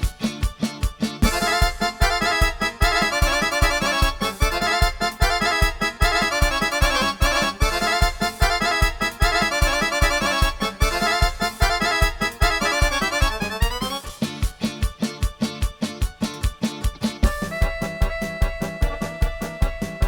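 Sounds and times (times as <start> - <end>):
accordion melody with chords: 0.0 - 20.0
bass and drum beat: 0.0 - 20.0.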